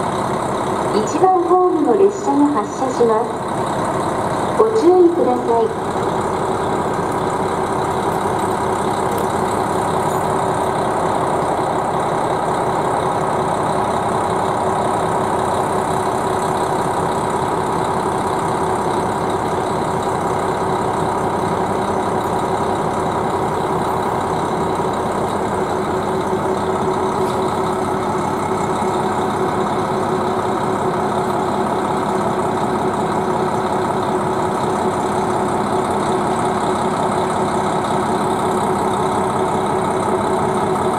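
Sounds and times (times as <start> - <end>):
diesel railcar engine idling: 0.0 - 40.9.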